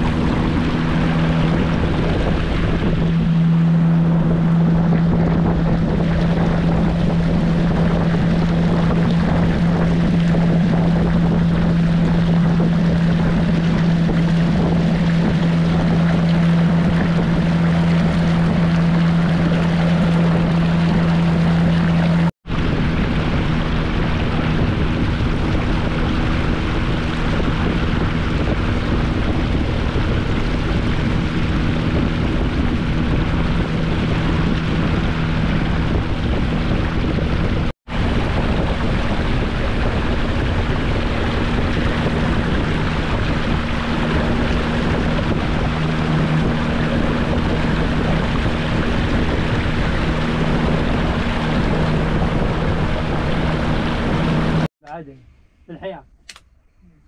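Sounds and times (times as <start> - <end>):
outboard motor running: 0.0 - 57.0
wind on microphone: 0.0 - 57.0.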